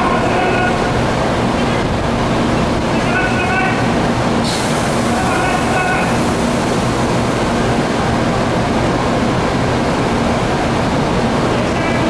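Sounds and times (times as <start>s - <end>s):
train rushing noise: 0.0s - 12.0s.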